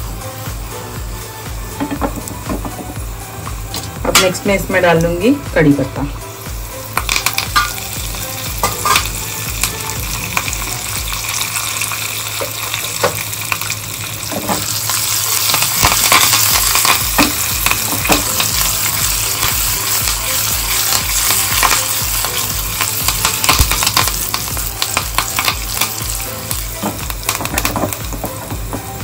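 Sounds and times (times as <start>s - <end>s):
leaves sizzling in hot oil: 0.0s - 29.0s.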